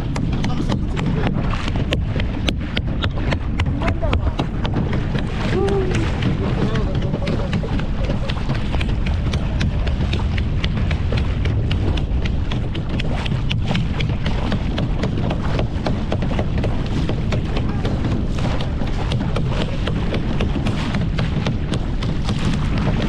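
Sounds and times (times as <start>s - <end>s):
water splashing against hull: 0.0s - 23.0s
wind rumbling on microphone: 0.0s - 23.0s.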